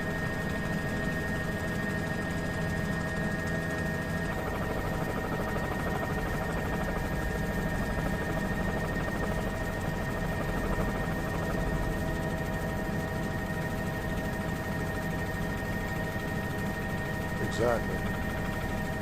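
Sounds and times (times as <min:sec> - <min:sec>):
helicopter engine and rotor: 0:00.0 - 0:19.0.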